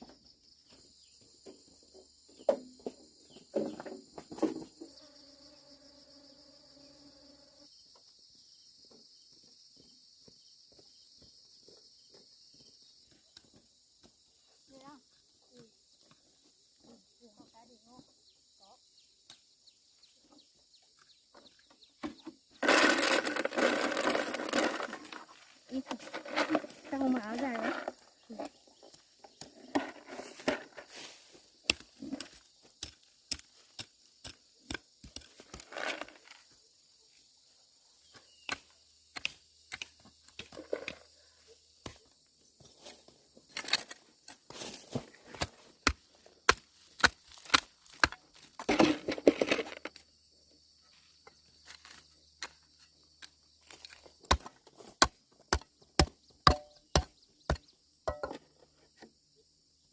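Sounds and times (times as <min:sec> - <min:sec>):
insects buzzing: 0:00.1 - 0:48.1.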